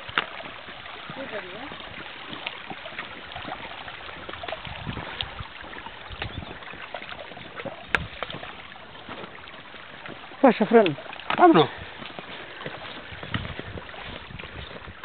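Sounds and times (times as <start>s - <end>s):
footsteps on stones: 0.0s - 15.0s.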